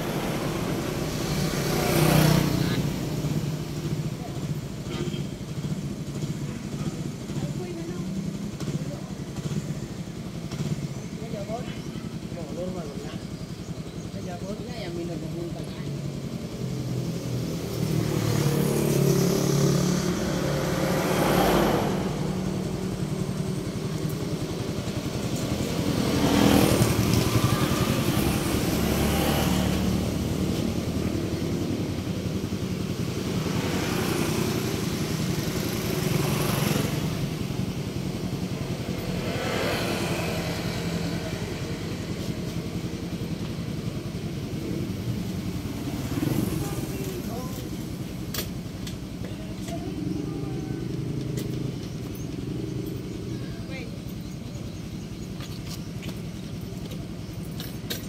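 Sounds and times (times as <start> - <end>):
background engine noise: 0.0 - 58.0
vehicles passing: 0.0 - 58.0.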